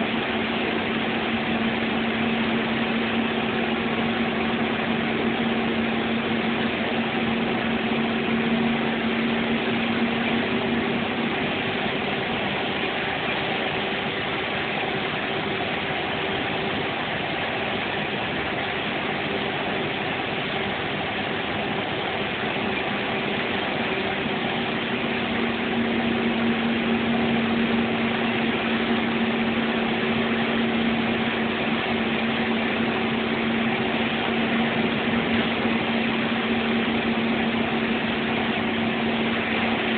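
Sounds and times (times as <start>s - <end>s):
bus engine hum: 0.0s - 39.9s
road noise: 0.0s - 39.9s.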